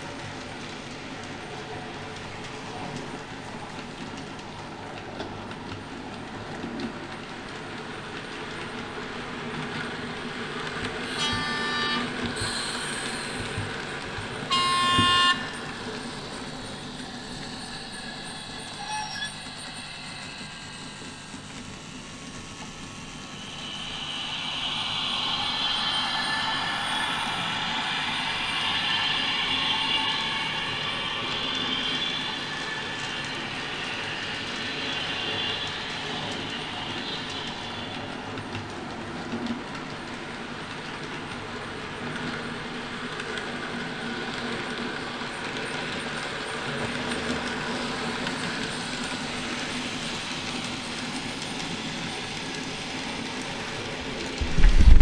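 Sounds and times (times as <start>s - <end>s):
model train electric whine: 5.2s - 55.0s.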